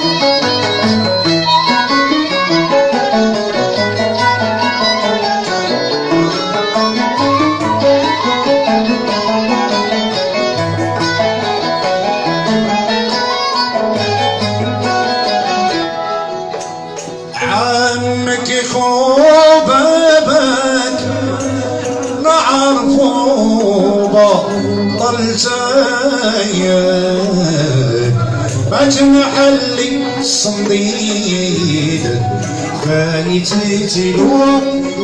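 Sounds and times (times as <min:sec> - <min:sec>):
live band playing: 0:00.0 - 0:35.0.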